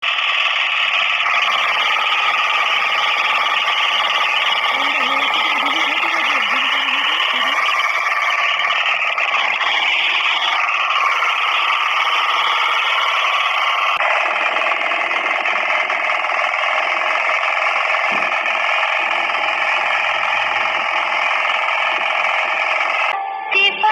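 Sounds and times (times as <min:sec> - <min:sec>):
power weeder engine running: 0:00.0 - 0:23.2.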